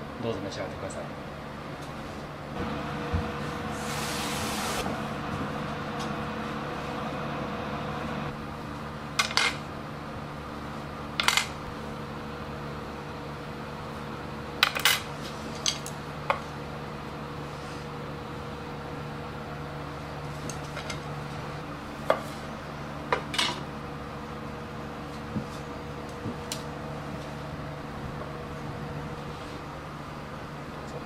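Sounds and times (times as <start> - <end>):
kitchen hum: 2.1 - 30.6.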